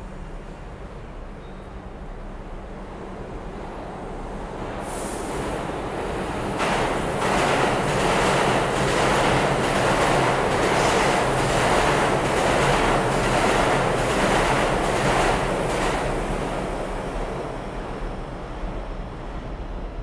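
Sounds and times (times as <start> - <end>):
subway train passing: 0.0 - 20.0.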